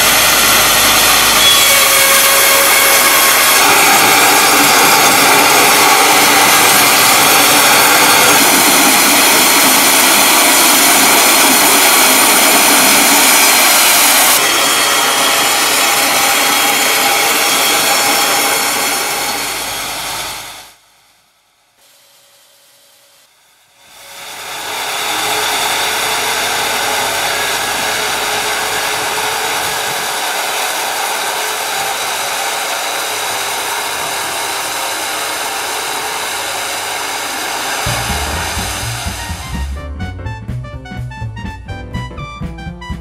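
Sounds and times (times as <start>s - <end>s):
bandmill sawing log: 0.0s - 20.7s, 23.9s - 39.8s.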